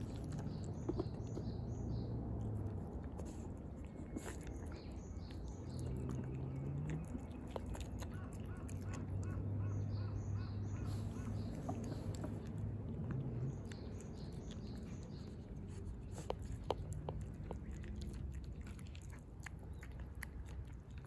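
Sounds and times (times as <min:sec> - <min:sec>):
cats chewing and crunching food: 0:00.0 - 0:09.9, 0:10.6 - 0:21.0
birds chirping: 0:00.0 - 0:21.0.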